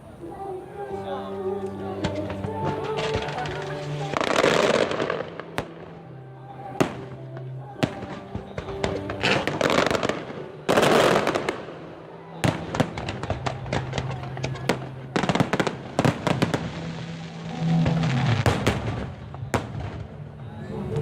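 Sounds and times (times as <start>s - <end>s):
music playing: 0.0s - 21.0s
fireworks bangs and crackles: 2.0s - 5.9s, 6.7s - 20.4s.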